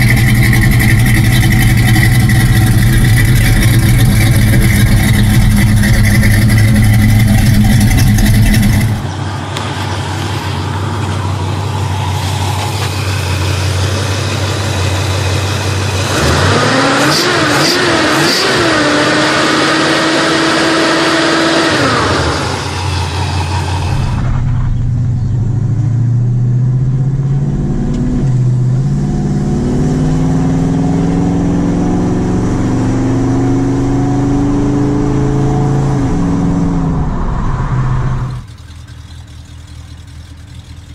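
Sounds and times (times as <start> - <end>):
muscle car engine revving: 0.0 - 40.9.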